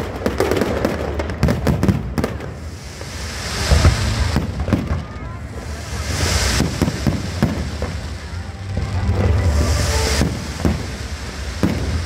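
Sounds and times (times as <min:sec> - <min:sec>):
fireworks sharp bangs: 0:00.0 - 0:12.0
fireworks shells rumbling: 0:00.0 - 0:12.0
hissing ground fountains: 0:00.0 - 0:12.0.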